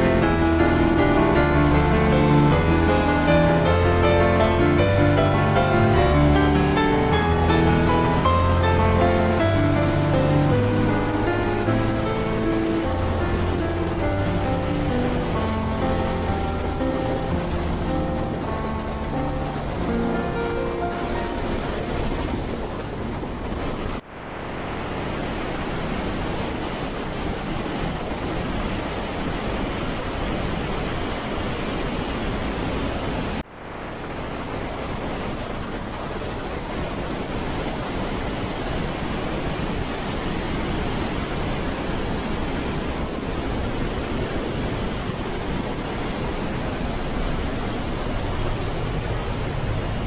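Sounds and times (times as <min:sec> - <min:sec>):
waterfall roaring through gorge: 0:00.0 - 0:50.0.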